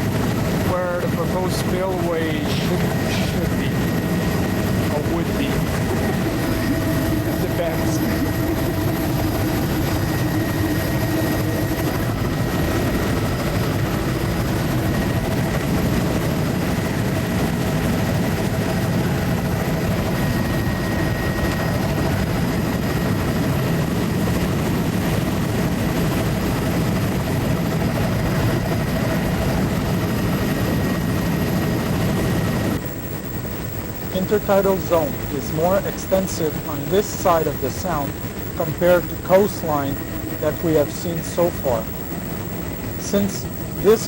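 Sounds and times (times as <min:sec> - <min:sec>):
aircraft cabin drone: 0:00.0 - 0:44.0.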